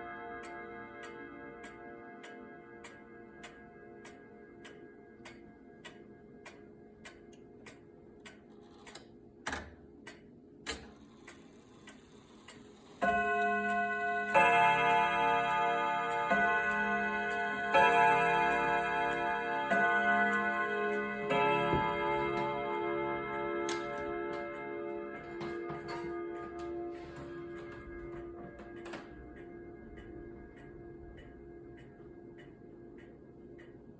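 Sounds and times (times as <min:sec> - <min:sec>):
clock chime rods striking: 0:00.0 - 0:07.3, 0:13.0 - 0:33.8
wall clock ticking: 0:00.0 - 0:33.9
clock movement clicks: 0:00.4 - 0:33.8.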